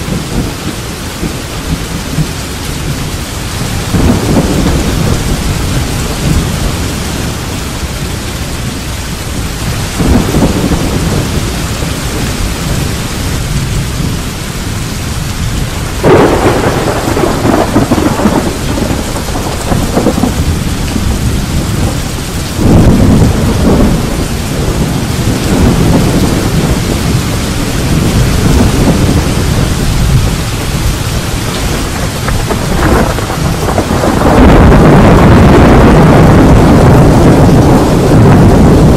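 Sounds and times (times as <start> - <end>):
steady rain: 0.0 - 38.9
thunder rolling: 0.0 - 38.9.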